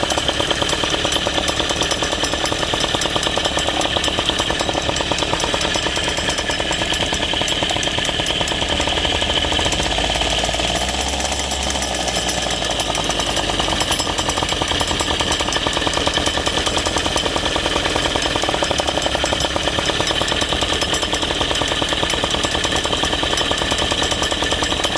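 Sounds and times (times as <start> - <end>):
scooter engine rattling: 0.0 - 24.9.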